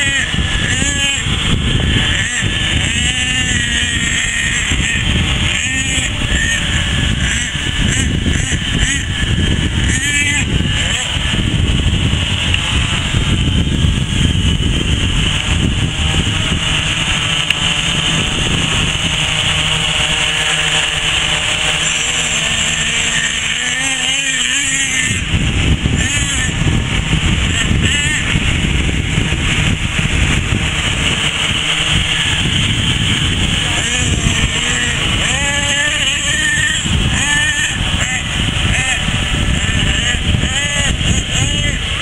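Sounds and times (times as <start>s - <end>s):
model motors high-pitched drone: 0.0s - 42.0s
wavering whine: 0.0s - 42.0s
wind rumble on microphone: 0.0s - 42.0s.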